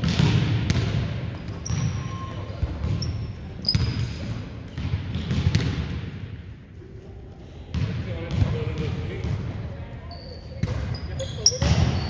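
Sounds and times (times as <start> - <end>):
sneakers squeaking: 0.0 - 5.8, 7.7 - 12.0.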